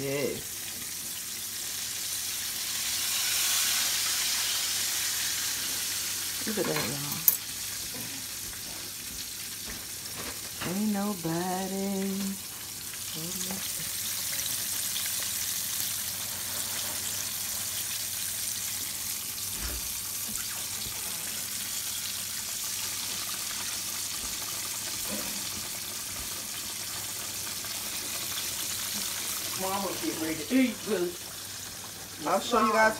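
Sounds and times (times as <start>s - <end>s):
fish sizzling in hot oil: 0.0s - 32.9s.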